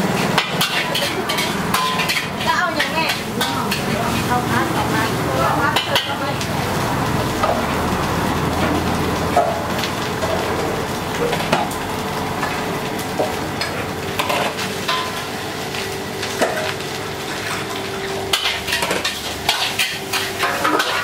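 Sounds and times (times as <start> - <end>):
food sizzling in a wok: 0.0 - 21.0
utensils and dishes clinking: 0.0 - 21.0.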